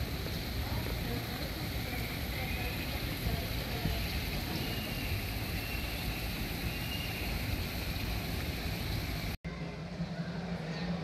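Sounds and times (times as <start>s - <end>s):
water splashing down waterfall: 0.0s - 9.4s.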